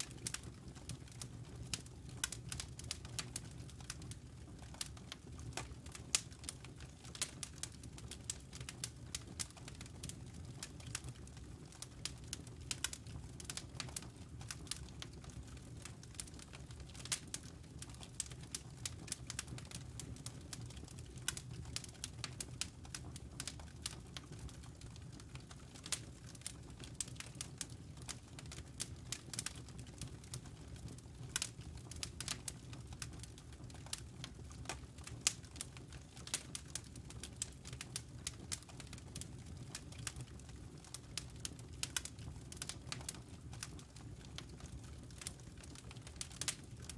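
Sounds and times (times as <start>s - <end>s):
low rumble of flames: 0.0s - 46.9s
wood crackling and popping: 0.0s - 46.9s.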